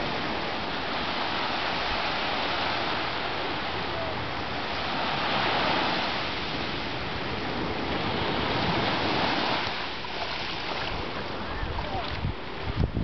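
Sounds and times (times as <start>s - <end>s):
small waves breaking on shore: 0.0s - 13.0s.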